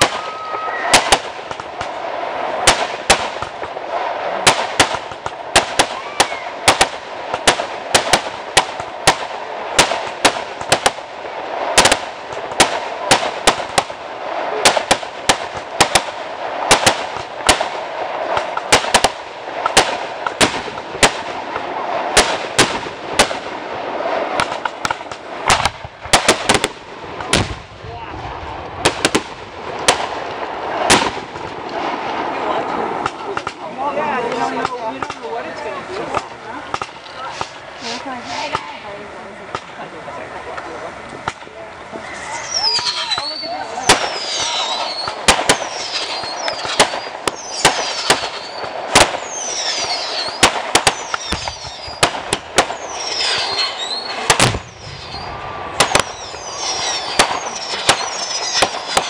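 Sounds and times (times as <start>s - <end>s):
continuous noisy background: 0.0s - 59.0s
fireworks bangs: 0.0s - 59.0s.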